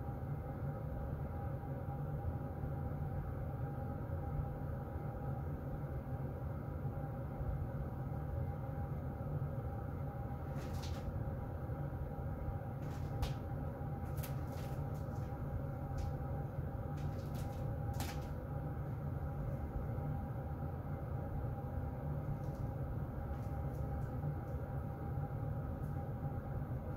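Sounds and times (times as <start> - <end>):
faint steady hum: 0.0 - 26.9
heater vent air blowing: 0.0 - 26.9.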